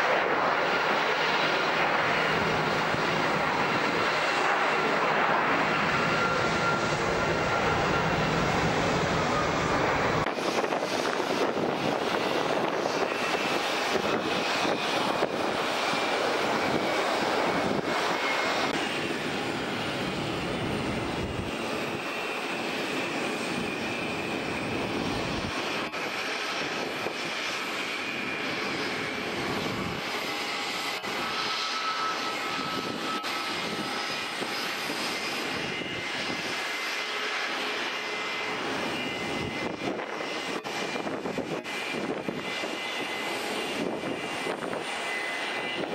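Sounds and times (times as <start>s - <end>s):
jet engines taxiing: 0.0s - 45.9s.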